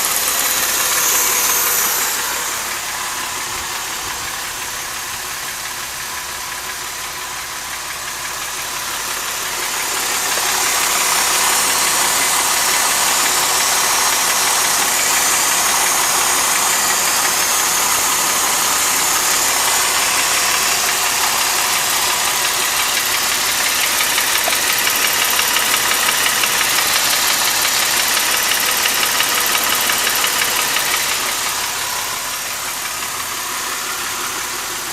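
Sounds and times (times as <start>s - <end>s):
car engine running: 0.0s - 34.9s
engine knocking: 0.0s - 34.9s.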